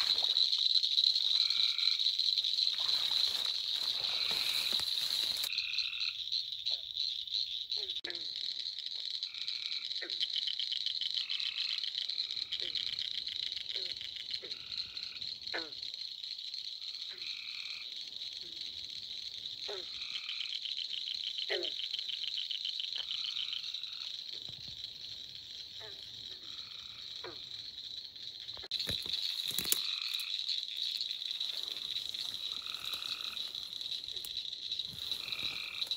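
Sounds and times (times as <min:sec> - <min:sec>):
frogs calling: 0:00.0 - 0:35.9.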